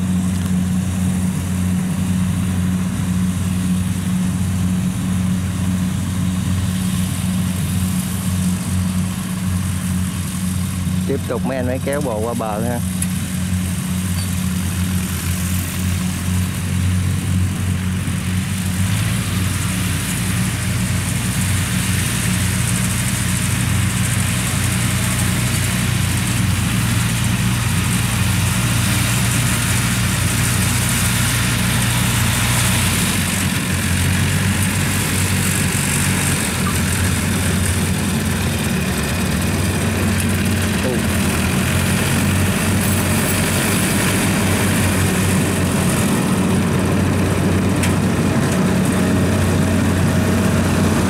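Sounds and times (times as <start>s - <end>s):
tracked carrier engine running: 0.0s - 51.0s.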